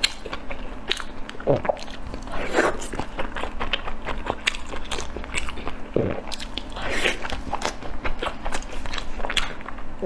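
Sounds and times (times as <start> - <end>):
person chewing: 0.0 - 9.9.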